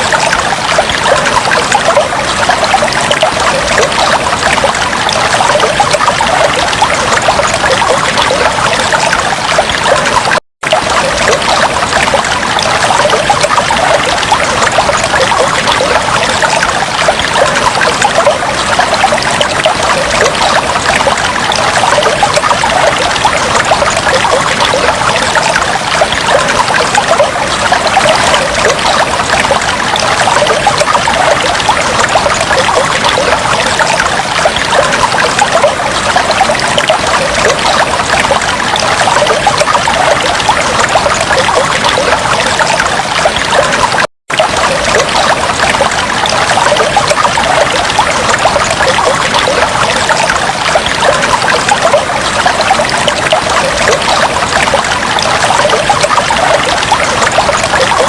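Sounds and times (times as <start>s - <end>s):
aquarium water trickling and bubbling: 0.0s - 58.0s.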